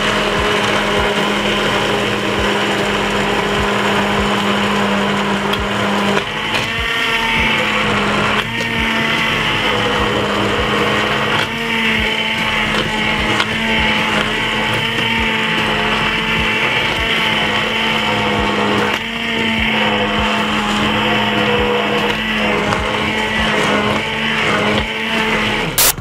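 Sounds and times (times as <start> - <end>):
stick blender motor whirring: 0.0 - 26.0.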